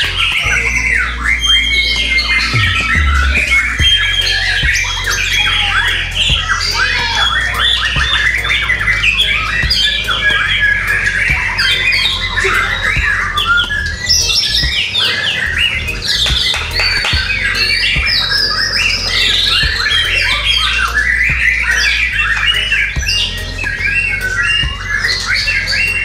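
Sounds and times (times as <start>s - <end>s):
birds singing whistles and chatter: 0.0s - 26.0s.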